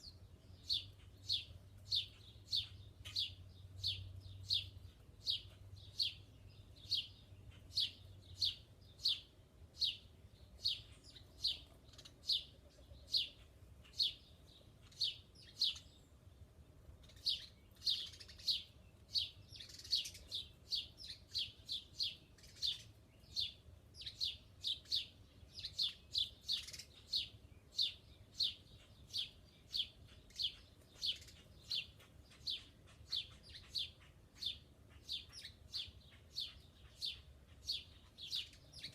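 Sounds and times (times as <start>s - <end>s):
small bird chirping: 0.0s - 38.9s.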